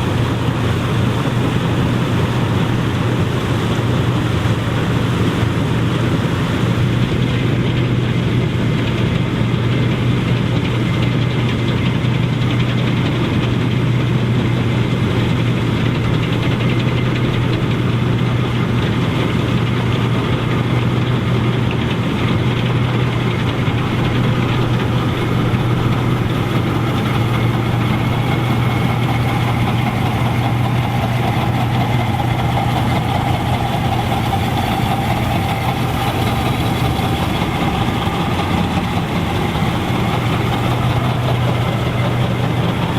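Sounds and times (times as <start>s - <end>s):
combine engine hum: 0.0s - 42.9s
rushing noise of harvester: 0.0s - 42.9s.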